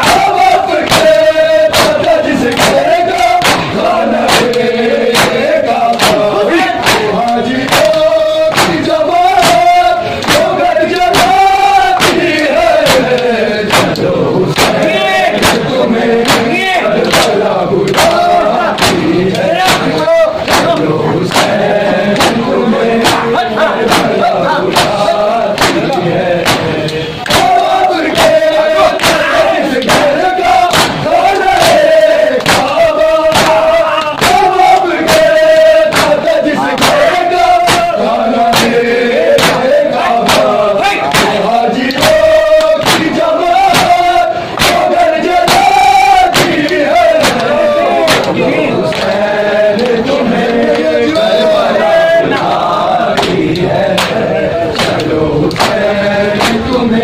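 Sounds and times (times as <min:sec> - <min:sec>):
hands slapping chests: 0:00.0 - 0:38.8, 0:39.4 - 0:51.0, 0:53.2 - 0:56.8
men chanting in unison: 0:00.0 - 0:57.0.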